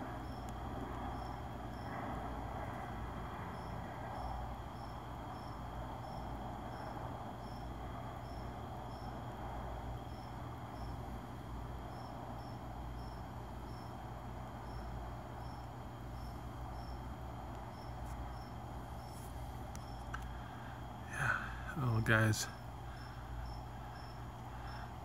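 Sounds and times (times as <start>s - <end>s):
background hiss: 0.0s - 25.0s
cricket chirping: 0.0s - 25.0s.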